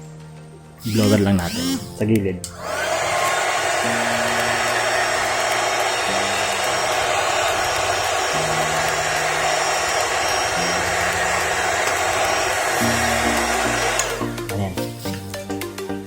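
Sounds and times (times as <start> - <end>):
electric air blower running: 0.8 - 15.4.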